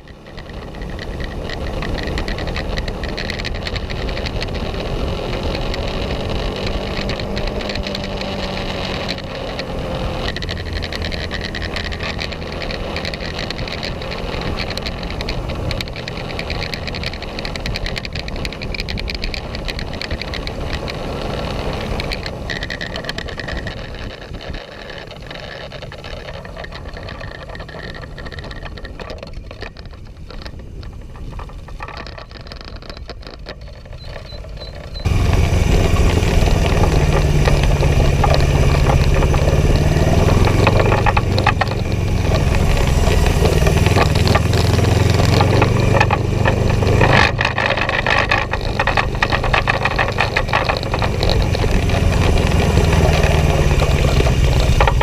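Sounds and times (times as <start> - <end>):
motorcycle engine drone: 0.0 - 55.0.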